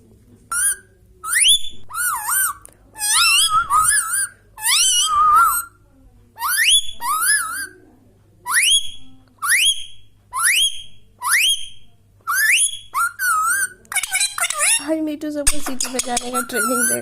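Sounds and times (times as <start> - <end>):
parrot whistling: 0.5 - 5.8, 6.4 - 7.8, 8.5 - 14.8, 16.0 - 17.0.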